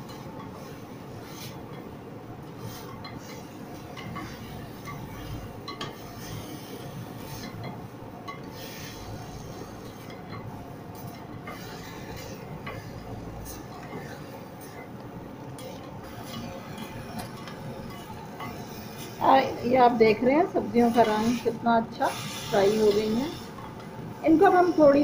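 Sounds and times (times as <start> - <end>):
spatula scraping pot: 0.0 - 25.0
vegetables sizzling: 0.0 - 25.0.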